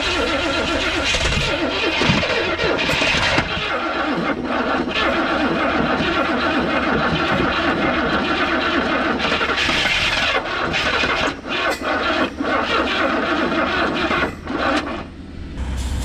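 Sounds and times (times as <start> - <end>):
car engine cranking and sputtering: 0.0 - 16.0.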